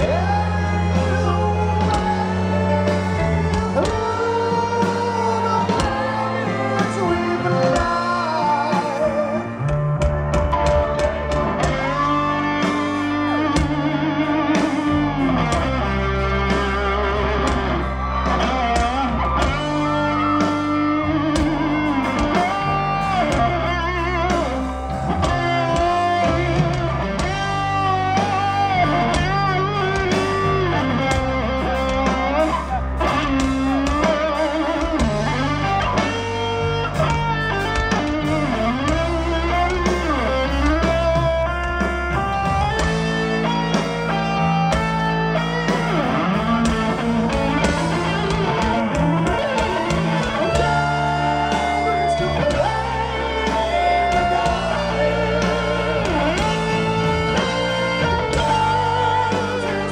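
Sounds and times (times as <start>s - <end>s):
electric guitar melody with bends: 0.0s - 59.9s
live rock band playing: 0.0s - 59.9s.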